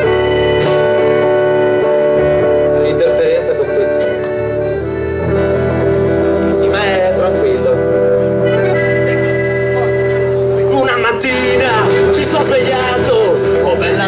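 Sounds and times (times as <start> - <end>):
accordion chords: 0.0 - 14.0
strummed guitars: 0.0 - 14.0.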